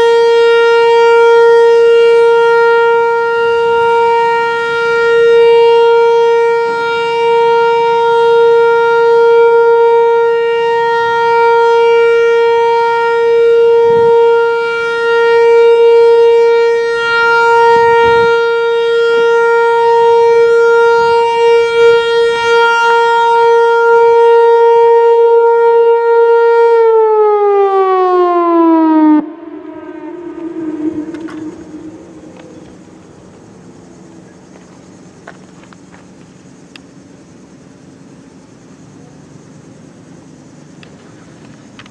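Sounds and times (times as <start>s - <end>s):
warning siren alert tone: 0.0s - 36.0s.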